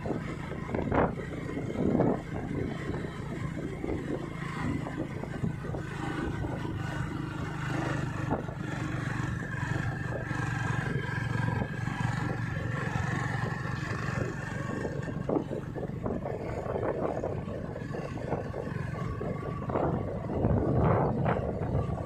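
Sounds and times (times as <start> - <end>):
vehicle engine running: 0.0 - 22.0
wind and road noise: 0.0 - 22.0.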